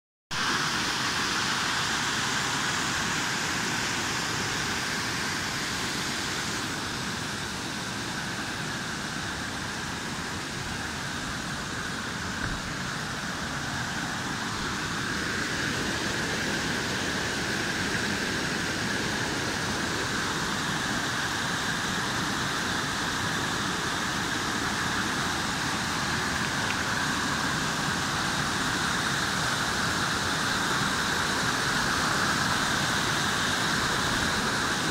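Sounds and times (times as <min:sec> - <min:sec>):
water rushing over rocks: 0:00.3 - 0:34.9.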